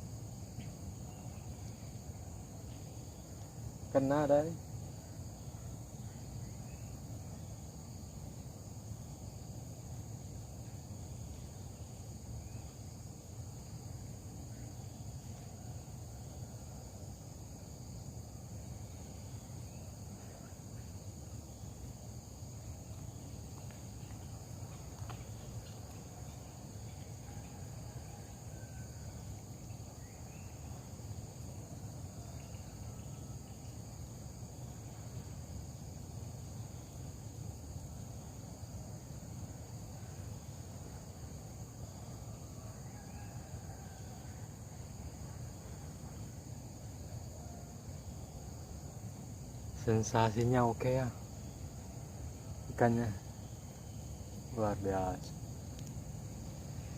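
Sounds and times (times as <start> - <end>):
insects chirring: 0.0 - 56.9.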